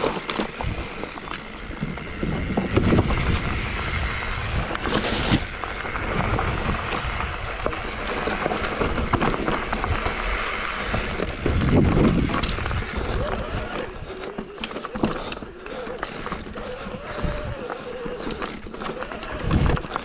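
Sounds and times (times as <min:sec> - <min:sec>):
wind rushing over microphone: 0:00.0 - 0:14.3, 0:16.4 - 0:20.0
bike rattling over rough trail: 0:00.0 - 0:20.0.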